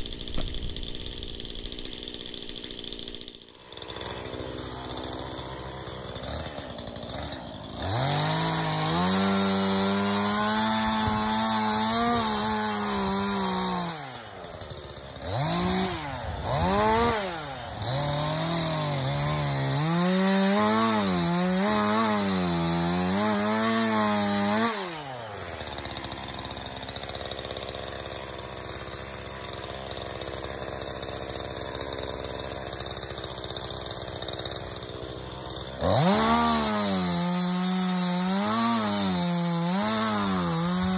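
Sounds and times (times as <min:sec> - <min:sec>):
battery chainsaw cutting wood: 0:00.0 - 0:40.9.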